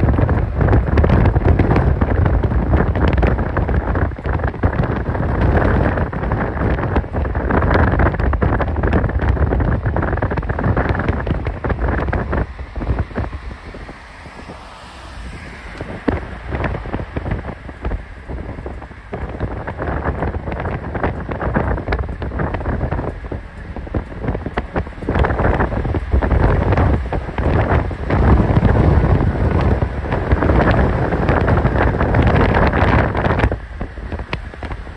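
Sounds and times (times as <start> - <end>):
car road noise: 0.0 - 34.9
wind buffeting microphone: 0.0 - 34.9.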